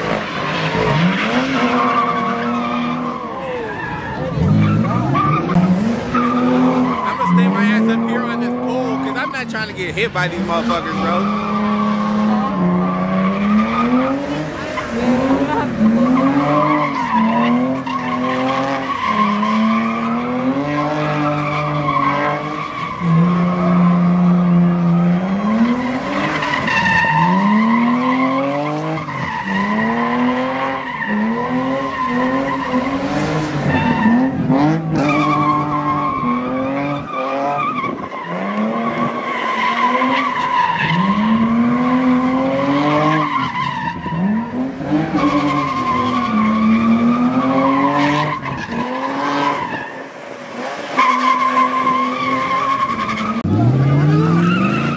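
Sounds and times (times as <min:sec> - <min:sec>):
tyres squealing: 0:00.0 - 0:50.0, 0:50.9 - 0:54.9
car engine revving: 0:00.0 - 0:54.9.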